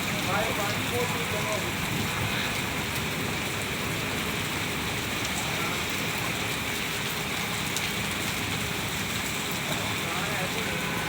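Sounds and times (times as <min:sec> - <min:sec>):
rain pattering on surfaces: 0:00.0 - 0:11.0.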